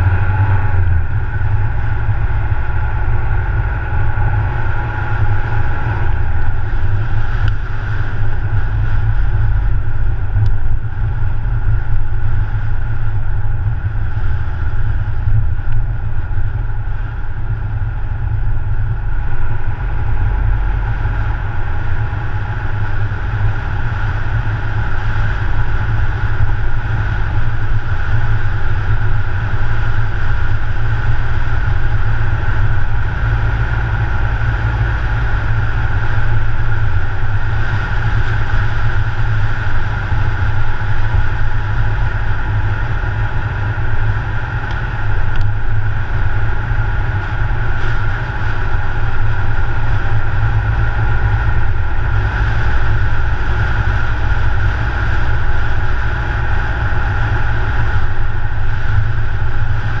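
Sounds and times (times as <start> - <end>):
car driving rumble: 0.0 - 60.0.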